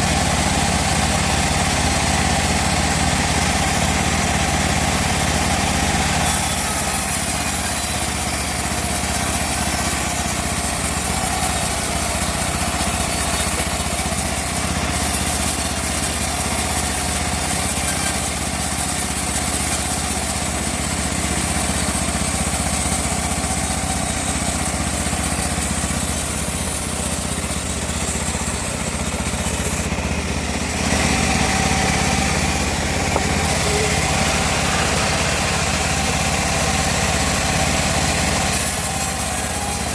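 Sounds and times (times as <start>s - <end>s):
bandsaw mill sawing wood: 0.0s - 39.9s.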